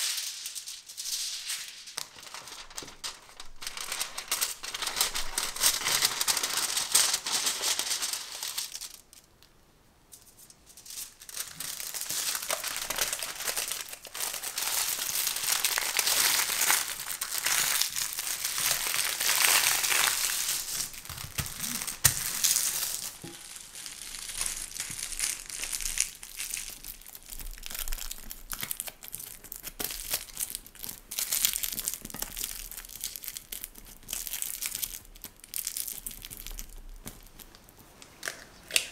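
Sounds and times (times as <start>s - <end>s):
metallic foil crinkling: 0.0s - 9.4s, 10.1s - 37.6s.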